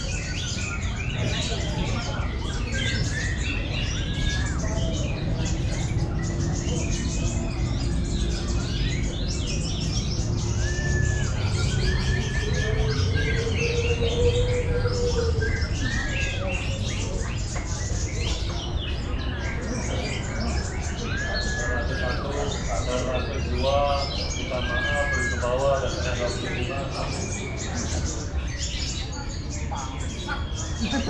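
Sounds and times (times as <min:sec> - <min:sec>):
birds chirping and whistling: 0:00.0 - 0:31.0.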